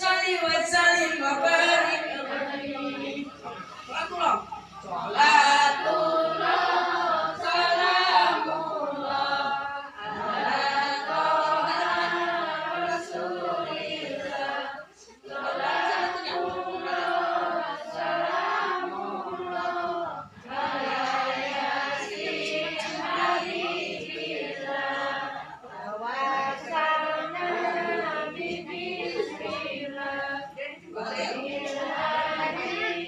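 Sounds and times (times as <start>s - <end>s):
women singing in unison: 0.0s - 3.7s, 4.9s - 33.0s.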